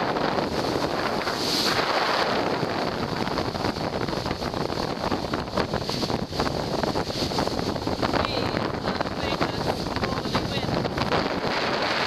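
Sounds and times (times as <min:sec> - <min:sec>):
rush of wind and water: 0:00.0 - 0:12.0
wind buffeting microphone: 0:00.0 - 0:12.0.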